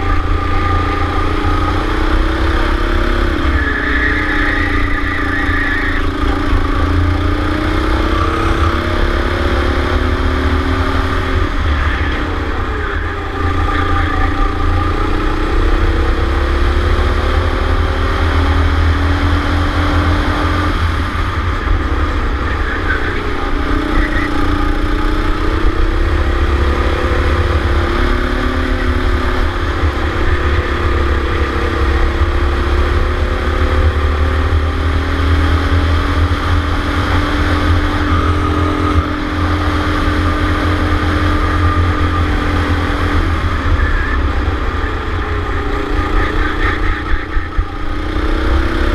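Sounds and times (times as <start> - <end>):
go-kart engine revving: 0.0 - 48.9.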